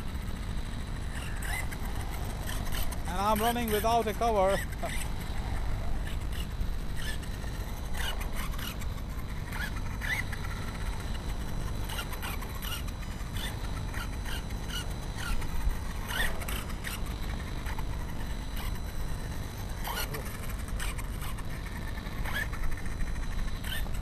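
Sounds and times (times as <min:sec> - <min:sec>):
electric motor rising whines: 0:01.0 - 0:24.0.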